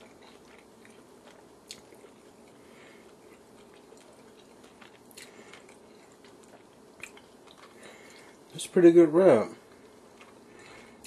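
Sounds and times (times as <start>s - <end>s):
person chewing food: 0.0s - 8.5s, 9.6s - 11.0s.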